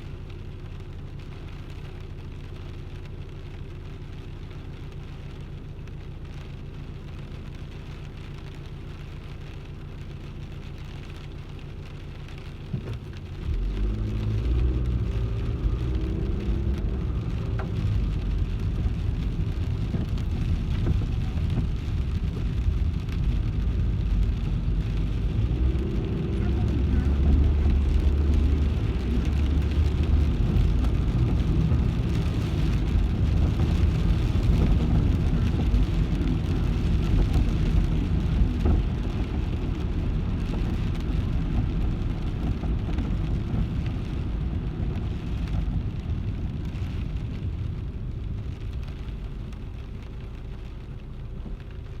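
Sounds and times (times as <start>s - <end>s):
rain on car: 0.0s - 52.0s
road and engine rumble: 0.0s - 52.0s.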